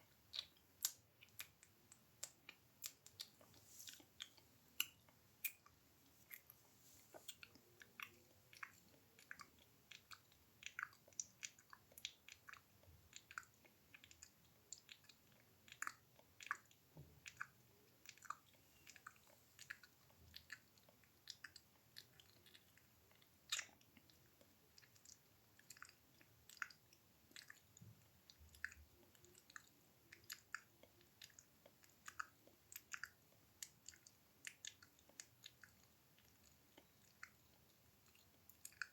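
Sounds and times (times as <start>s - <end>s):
wet mouth clicks and smacks: 0.3s - 38.9s.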